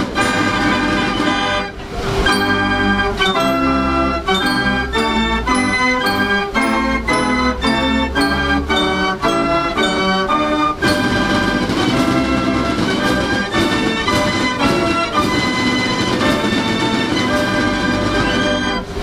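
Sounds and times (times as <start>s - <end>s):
fair organ playing a tune: 0.0s - 19.0s.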